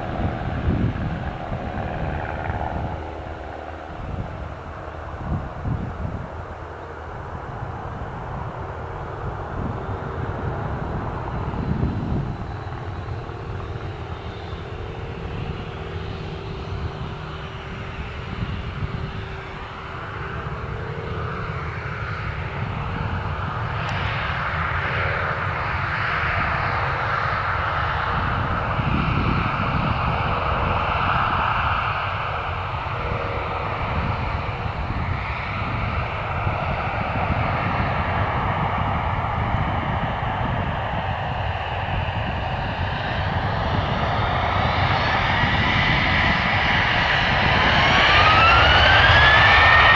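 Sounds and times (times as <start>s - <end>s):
jet engines rumbling and whining: 0.0s - 49.9s.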